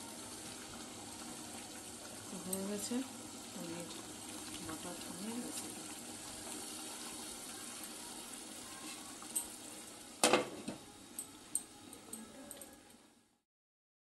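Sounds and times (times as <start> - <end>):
gravy simmering in a frying pan: 0.0 - 13.4.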